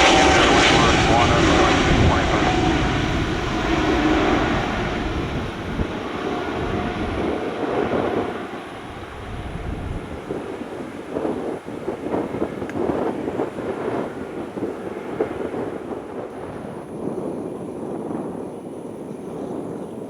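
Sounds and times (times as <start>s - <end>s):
jet engines roaring: 0.0s - 18.4s.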